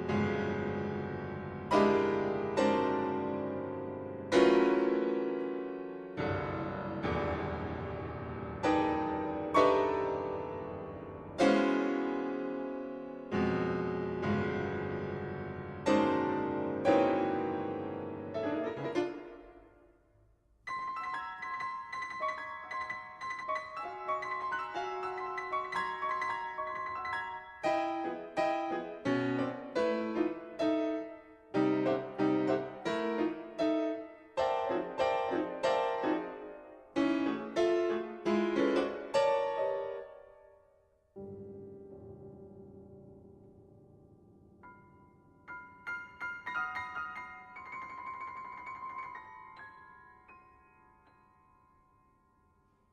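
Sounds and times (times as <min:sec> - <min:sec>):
piano chords: 0:00.0 - 0:19.8, 0:20.7 - 0:40.4, 0:41.2 - 0:52.1.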